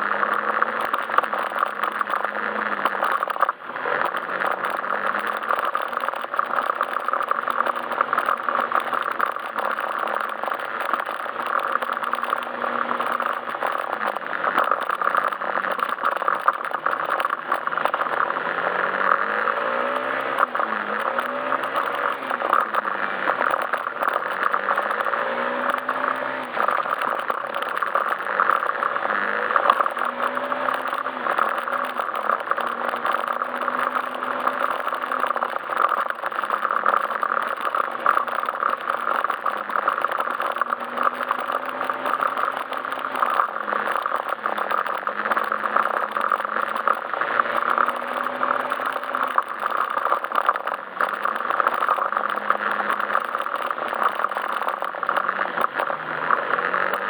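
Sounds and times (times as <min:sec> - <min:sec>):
scooter engine revving: 0:00.0 - 0:57.0
wind and road noise: 0:00.0 - 0:57.0.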